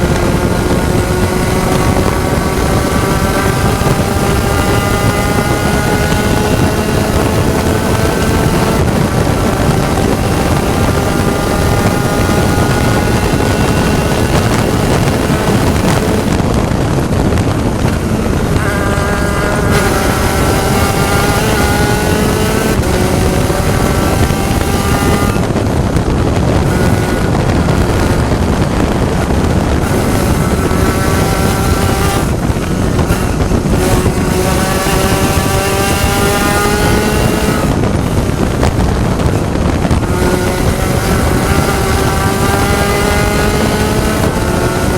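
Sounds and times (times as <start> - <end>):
race car engine revving: 0.0 - 44.9
rush of wind and road noise: 0.0 - 44.9.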